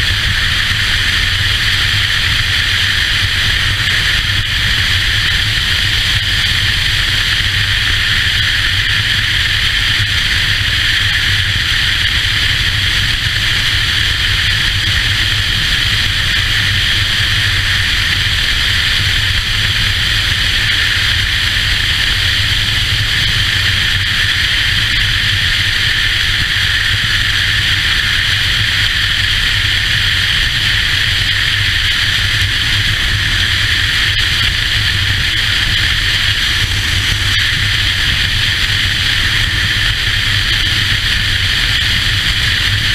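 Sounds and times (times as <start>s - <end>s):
motorcycle engine drone: 0.0s - 42.9s
wind rush over microphone: 0.0s - 42.9s.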